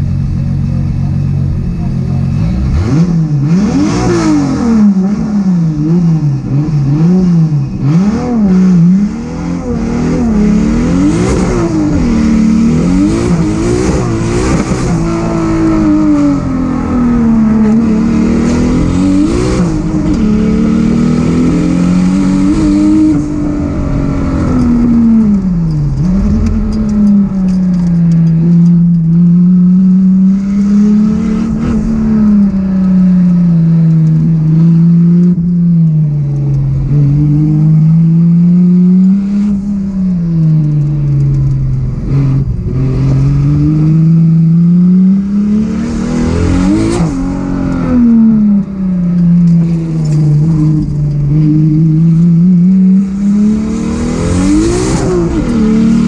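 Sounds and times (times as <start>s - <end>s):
turbocharged engine revving: 0.0s - 56.0s.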